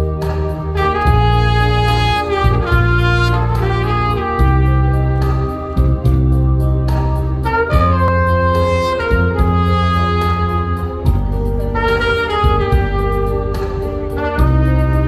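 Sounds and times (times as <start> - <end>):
bass: 0.0 - 15.0
saxophone melody: 0.0 - 15.0
steady drum beat: 0.9 - 13.5.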